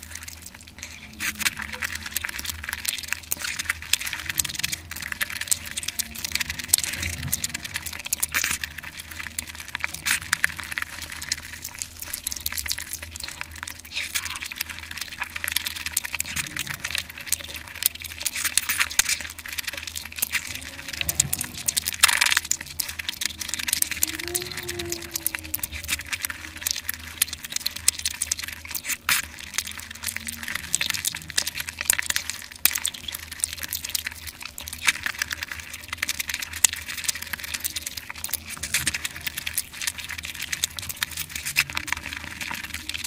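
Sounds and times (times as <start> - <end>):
wet chewing and mouth smacking: 0.0 - 43.0.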